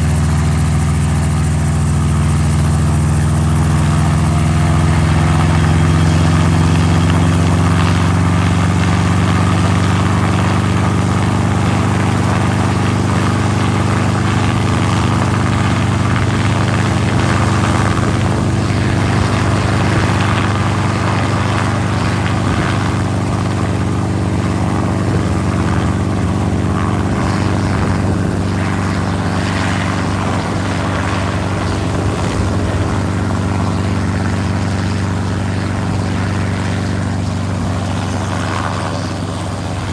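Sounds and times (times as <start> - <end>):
helicopter engine and rotor hum: 0.0 - 39.9.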